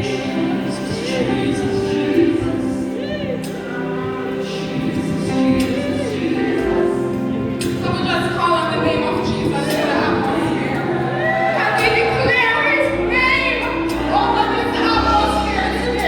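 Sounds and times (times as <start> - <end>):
gospel choir singing with band: 0.0 - 16.0.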